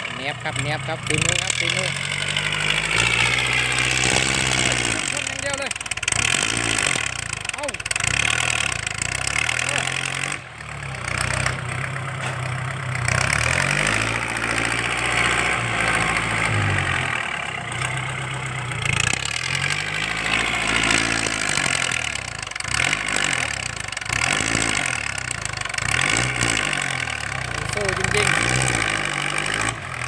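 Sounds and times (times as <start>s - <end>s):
car engine revving loudly: 0.0s - 30.0s.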